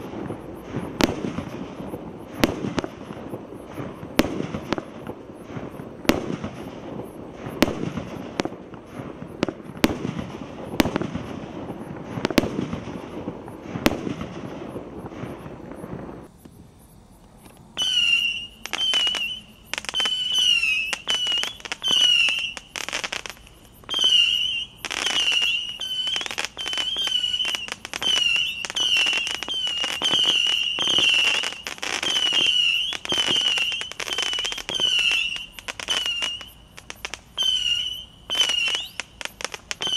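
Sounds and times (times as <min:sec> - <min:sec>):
firework bangs: 0:00.0 - 0:39.9
firework crackling: 0:00.0 - 0:39.9
firework cracks: 0:00.0 - 0:39.9
whistling firework shots: 0:00.0 - 0:39.9.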